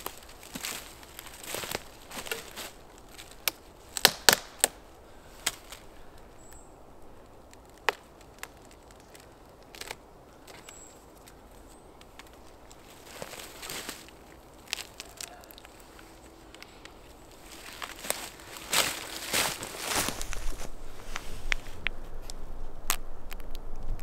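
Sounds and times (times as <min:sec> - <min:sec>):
footsteps on dry forest litter: 0:00.0 - 0:06.6, 0:07.2 - 0:22.6
fungus cracking and snapping: 0:00.0 - 0:20.7, 0:21.5 - 0:24.0.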